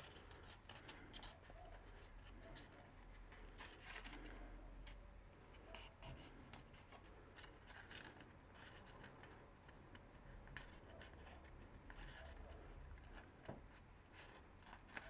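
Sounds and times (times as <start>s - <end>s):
card rustling and ticking: 0.0s - 15.0s.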